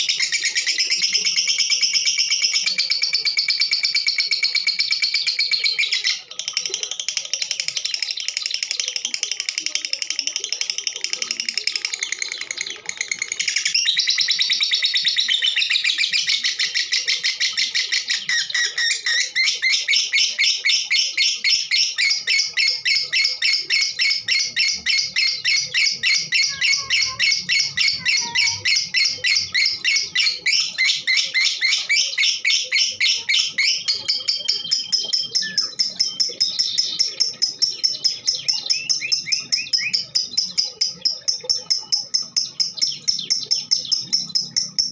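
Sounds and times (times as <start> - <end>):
lovebird chattering: 0.0 - 44.9.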